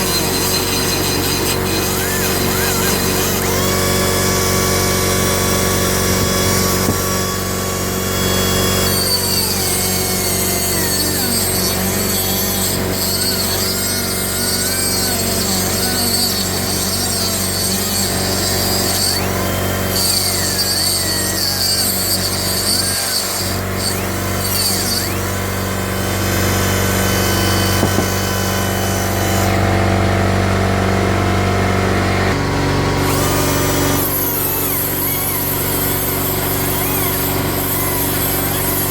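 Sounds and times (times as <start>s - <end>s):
die grinder whining on steel: 0.0s - 38.9s.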